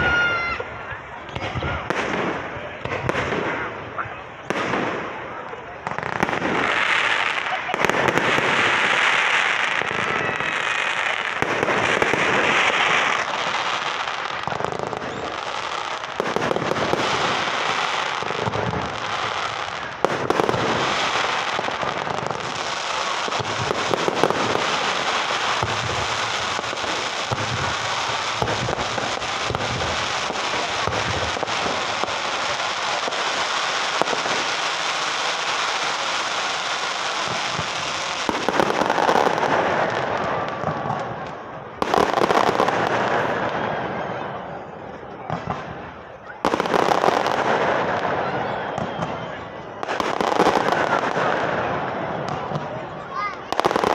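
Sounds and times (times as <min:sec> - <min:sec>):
fireworks bangs: 0:00.0 - 0:53.9
fireworks crackling: 0:00.0 - 0:53.9.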